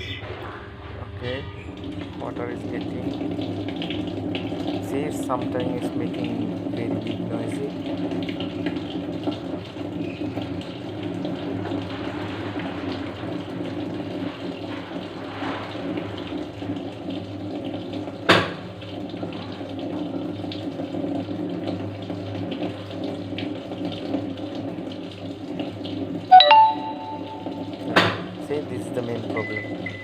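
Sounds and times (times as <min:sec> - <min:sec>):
washing machine hum: 0:00.0 - 0:30.0
water running into drum: 0:01.2 - 0:30.0.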